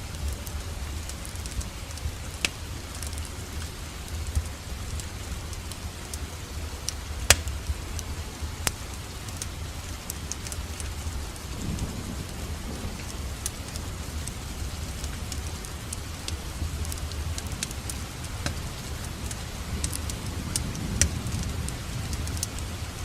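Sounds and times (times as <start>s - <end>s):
steady rain falling: 0.0s - 23.0s
wood fire crackling: 0.0s - 23.0s.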